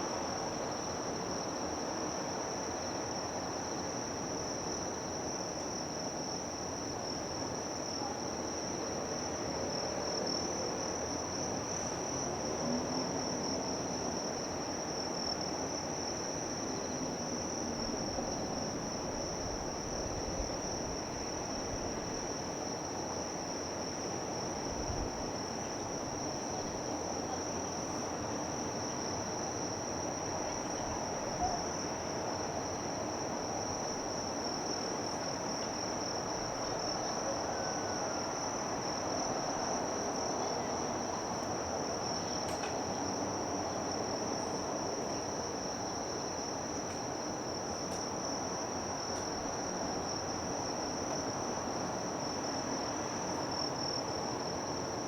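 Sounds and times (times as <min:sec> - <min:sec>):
crickets droning: 0:00.0 - 0:55.0.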